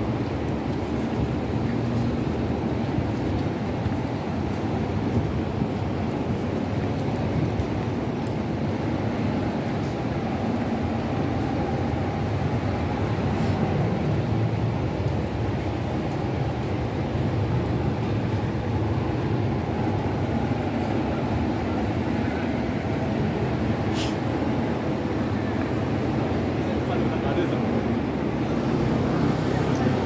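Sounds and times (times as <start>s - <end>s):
low rumble of traffic: 0.0s - 30.0s.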